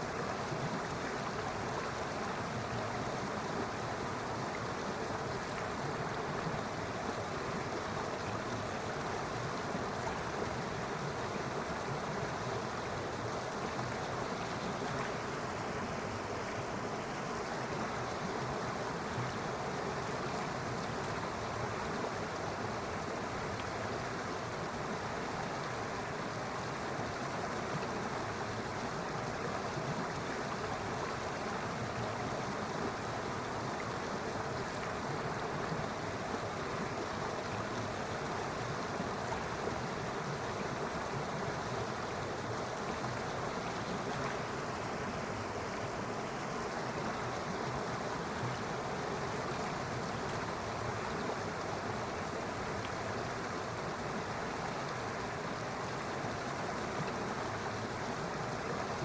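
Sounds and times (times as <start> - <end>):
water rushing: 0.0 - 59.0.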